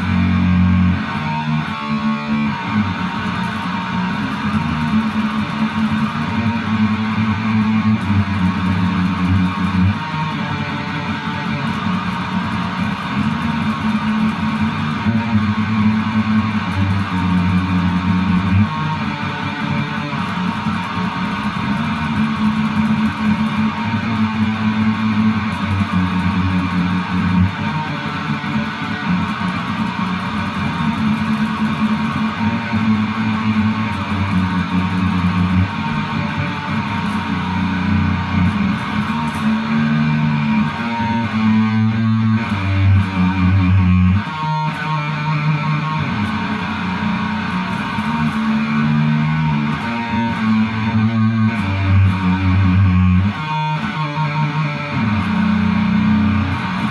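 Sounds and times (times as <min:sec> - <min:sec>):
guitar music: 0:00.0 - 0:56.9
held bass notes: 0:00.0 - 0:56.9.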